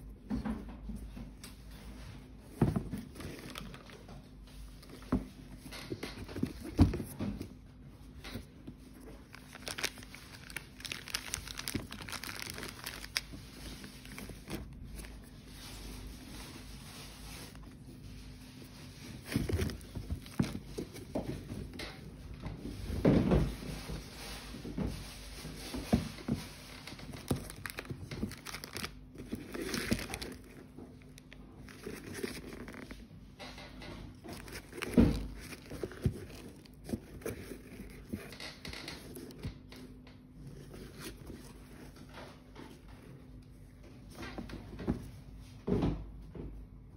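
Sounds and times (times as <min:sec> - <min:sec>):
paper and plastic crinkling: 0:01.5 - 0:21.9, 0:23.4 - 0:43.0.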